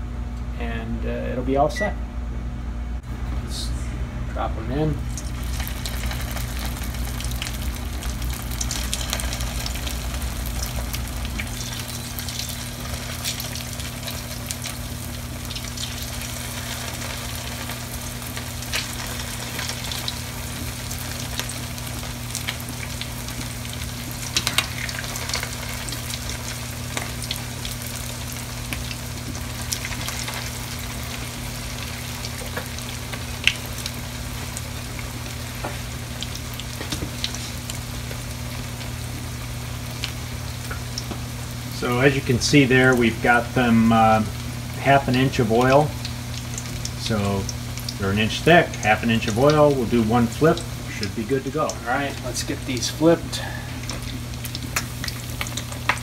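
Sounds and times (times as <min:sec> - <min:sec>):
steady low hum: 0:00.0 - 0:56.0
food sizzling in oil: 0:05.0 - 0:56.0.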